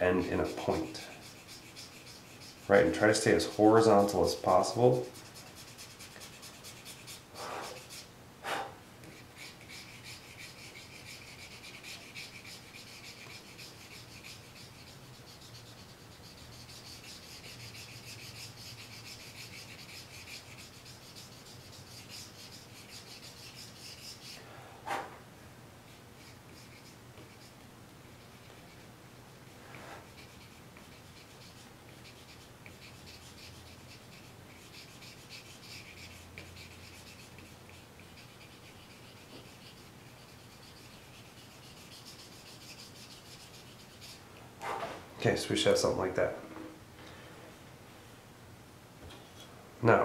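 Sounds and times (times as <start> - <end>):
eraser rubbing on paper: 0.0 - 8.1, 9.1 - 24.4, 26.2 - 27.6, 28.2 - 28.9, 29.5 - 44.9.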